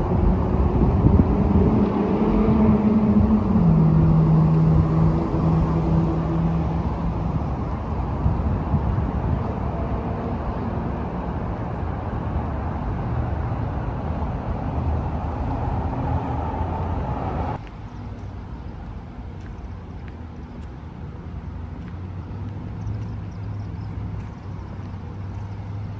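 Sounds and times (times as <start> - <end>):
rumble of passing vehicles: 0.0 - 25.9.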